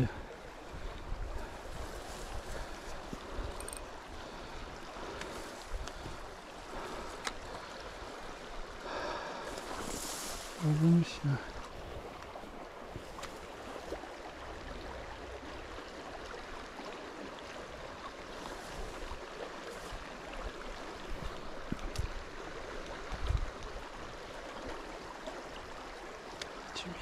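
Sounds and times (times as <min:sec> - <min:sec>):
river water running: 0:00.0 - 0:27.0.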